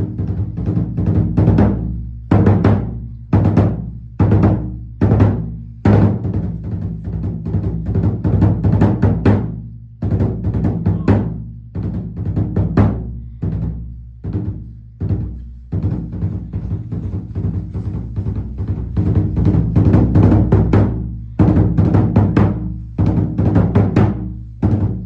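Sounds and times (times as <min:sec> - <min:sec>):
taiko drumming: 0:00.0 - 0:25.0.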